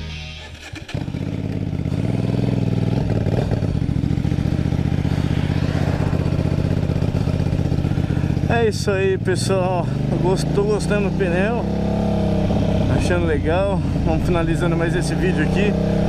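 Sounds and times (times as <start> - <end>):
motorcycle engine cruising: 0.3 - 16.0.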